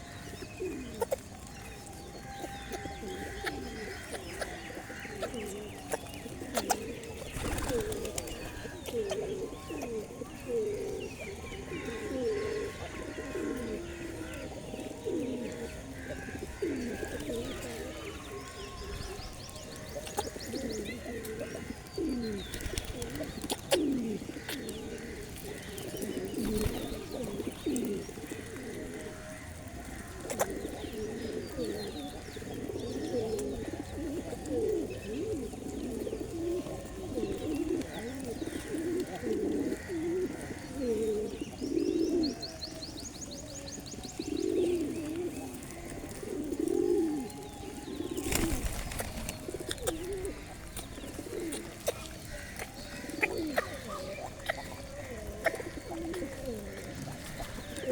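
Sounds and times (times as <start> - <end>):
pigeons cooing: 0.0 - 57.9.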